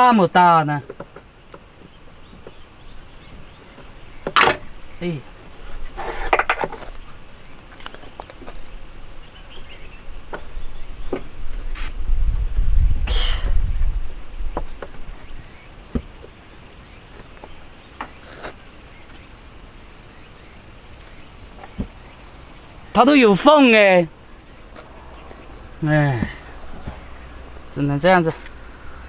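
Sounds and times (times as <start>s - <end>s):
insects chirping: 0.0s - 29.0s.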